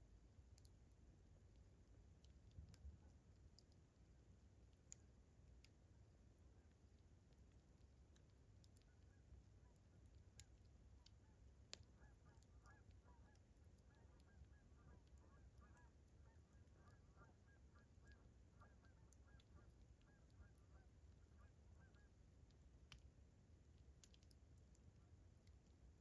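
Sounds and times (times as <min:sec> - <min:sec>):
campfire crackling: 0:00.1 - 0:26.0.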